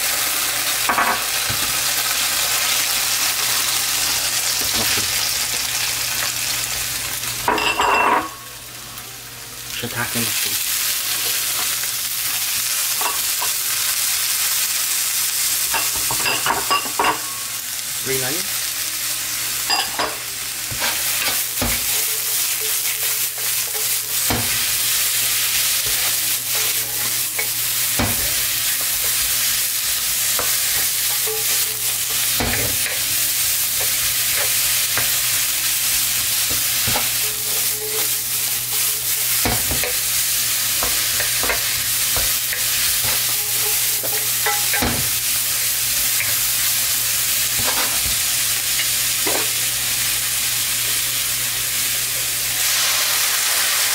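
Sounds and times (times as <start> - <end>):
vegetables sizzling in a wok: 0.0 - 53.9.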